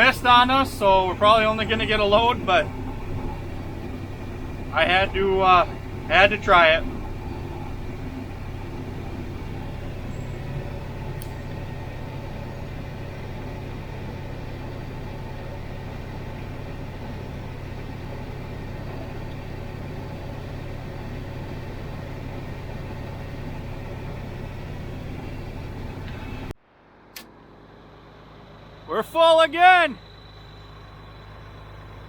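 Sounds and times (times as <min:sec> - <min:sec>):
combine harvester machinery drone: 0:00.0 - 0:32.0.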